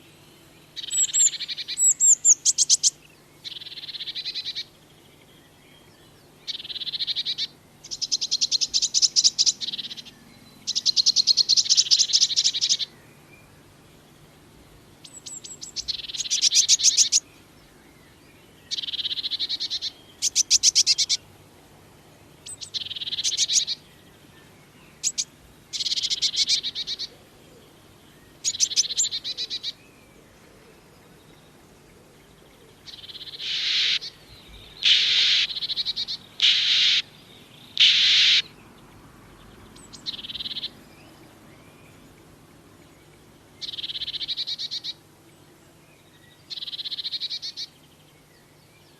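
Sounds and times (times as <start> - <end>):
blue tits calling: 0.0 - 21.5, 22.3 - 48.9.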